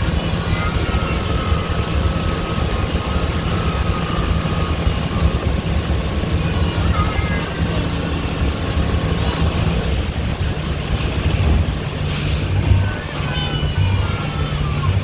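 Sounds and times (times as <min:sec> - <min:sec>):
boat motor humming: 0:00.0 - 0:15.0
wind buffeting microphone: 0:00.0 - 0:15.0.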